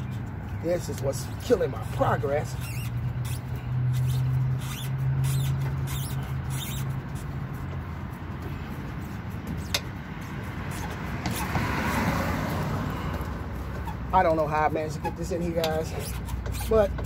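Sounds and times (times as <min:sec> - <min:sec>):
rubber bushing squeaks and scrapes: 0:00.0 - 0:17.0.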